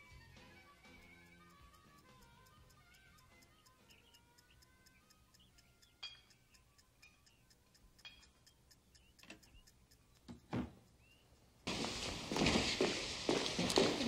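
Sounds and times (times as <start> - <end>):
sharp clicking clinks: 0.0 - 11.6
steady ticking: 0.0 - 12.3.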